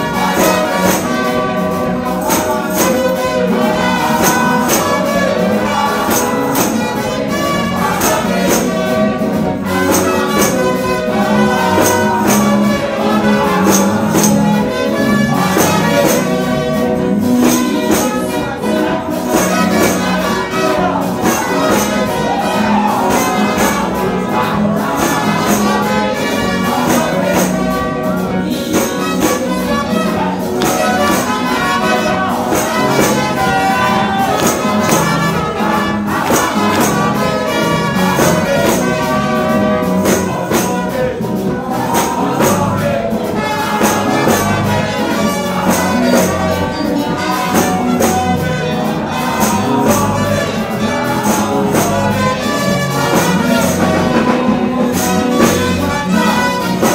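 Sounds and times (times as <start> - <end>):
people singing into microphones: 0.0 - 56.9
tambourine beat: 0.0 - 56.9.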